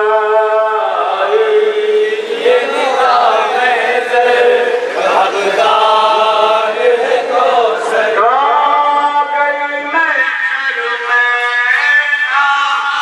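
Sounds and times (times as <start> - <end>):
men chanting a mourning lament: 0.0 - 13.0.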